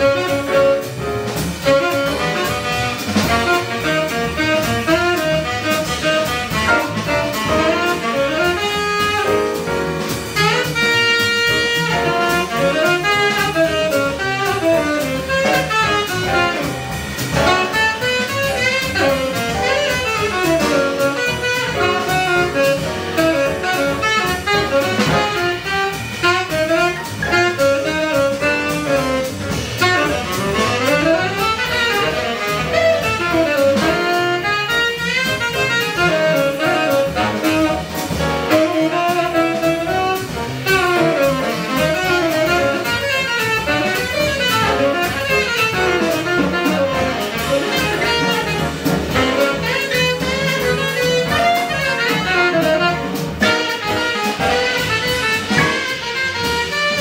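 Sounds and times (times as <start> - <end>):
double bass: 0.0 - 57.0
drum kit cymbals: 0.0 - 57.0
saxophone fast runs: 0.0 - 57.0.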